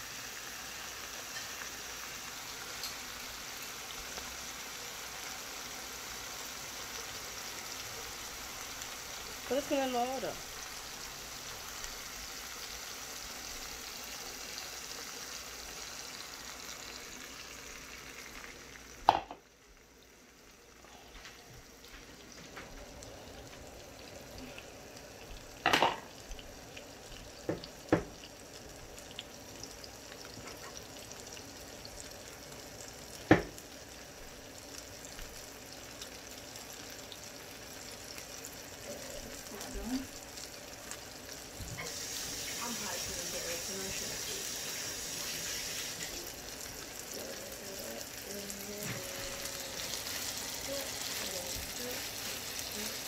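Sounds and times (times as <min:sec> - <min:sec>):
food sizzling in a skillet: 0:00.0 - 0:53.0.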